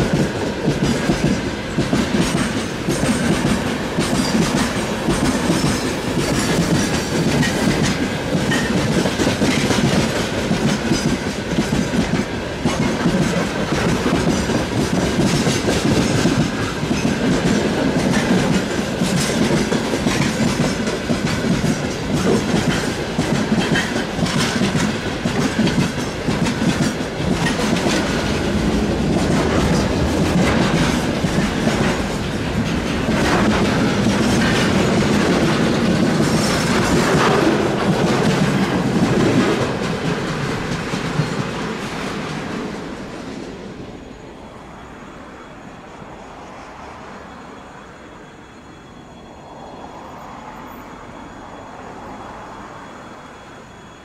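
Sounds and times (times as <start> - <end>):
freight train wheels clacking: 0.0 - 43.8.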